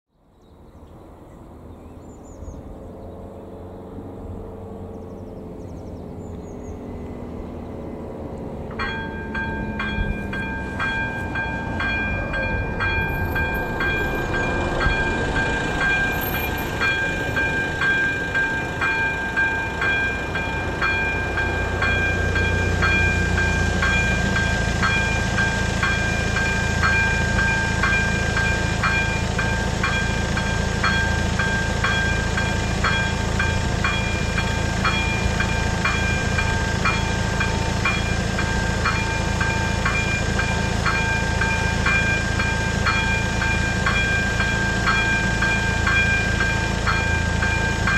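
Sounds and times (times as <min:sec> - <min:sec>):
level crossing warning bell: 0:08.0 - 0:47.9.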